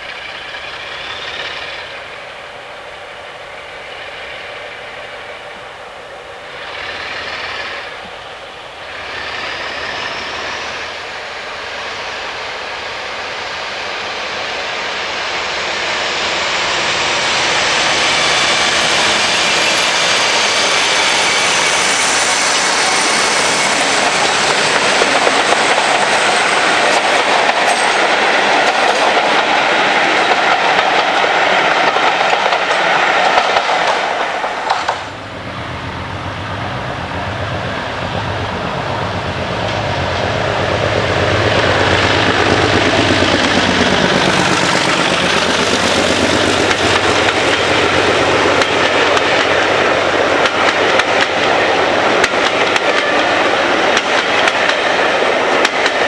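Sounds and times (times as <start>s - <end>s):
diesel locomotive engine: 0.0s - 56.0s
train wheels rumbling on rails: 0.0s - 56.0s.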